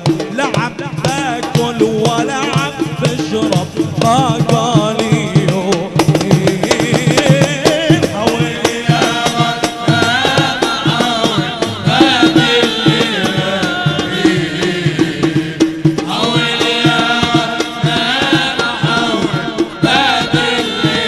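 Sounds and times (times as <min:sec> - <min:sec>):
drum and percussion beats: 0:00.0 - 0:21.0.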